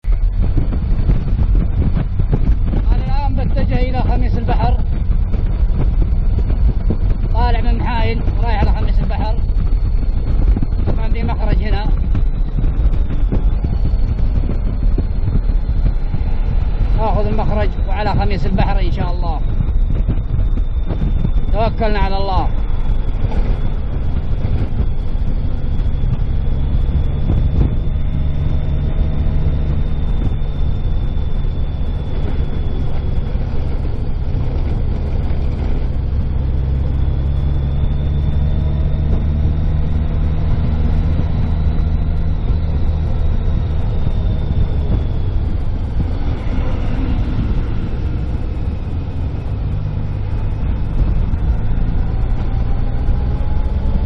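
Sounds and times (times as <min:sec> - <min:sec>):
faint high whine: 0:00.0 - 0:54.0
vehicle engine and road rumble: 0:00.0 - 0:54.0.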